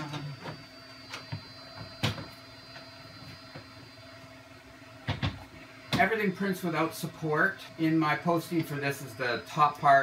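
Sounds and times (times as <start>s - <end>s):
machines humming: 0.0s - 10.0s.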